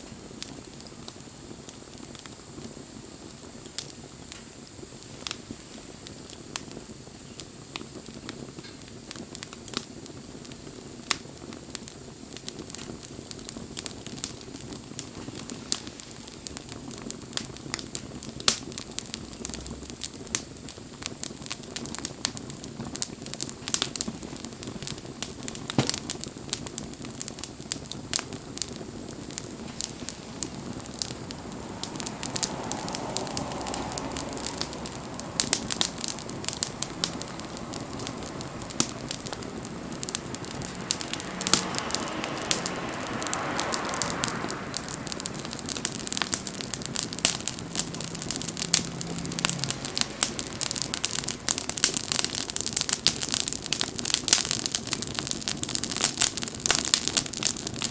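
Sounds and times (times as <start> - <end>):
soft hiss: 0.0 - 55.9
bonfire crackling and popping: 0.0 - 57.9.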